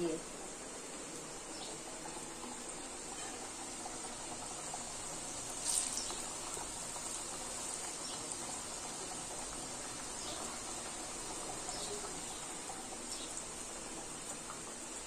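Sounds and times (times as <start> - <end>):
dumplings sizzling in deep-frying oil: 0.0 - 15.0.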